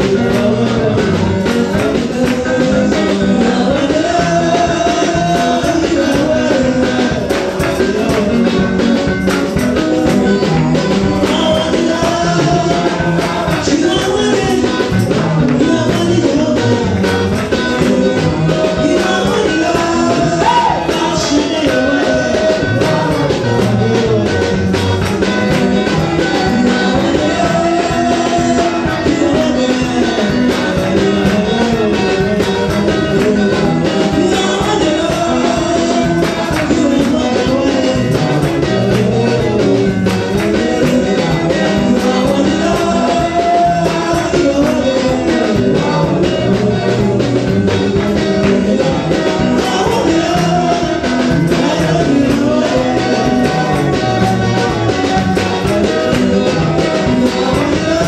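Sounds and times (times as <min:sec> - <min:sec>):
worship music with singing: 0:00.0 - 0:58.0.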